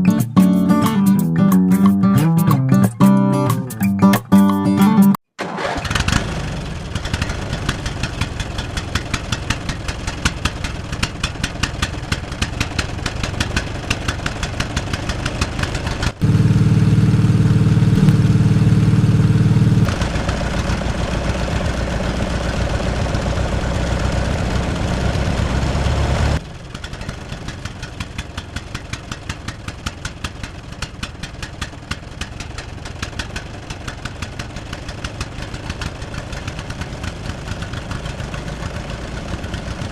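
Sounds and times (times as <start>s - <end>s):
small engine ticking: 6.2s - 39.9s.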